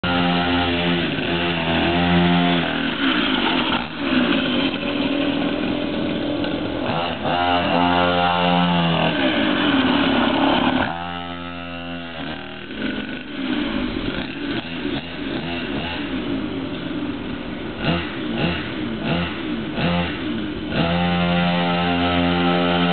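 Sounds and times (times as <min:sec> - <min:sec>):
mini dirt bike engine revving: 0:00.0 - 0:22.9.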